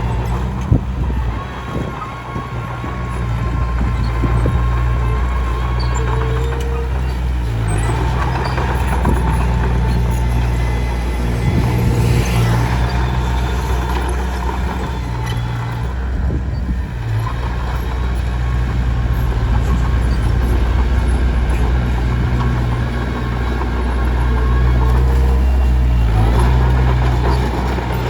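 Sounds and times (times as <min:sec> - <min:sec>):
bulldozer diesel engine: 0:00.0 - 0:28.0.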